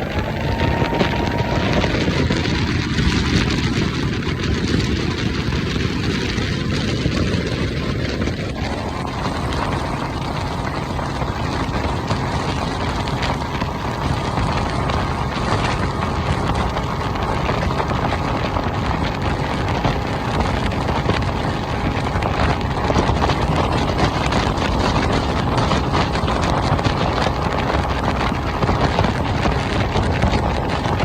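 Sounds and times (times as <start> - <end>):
outboard motor running: 0.0 - 31.0
water noise: 0.0 - 31.0
wind on the microphone: 0.0 - 31.0.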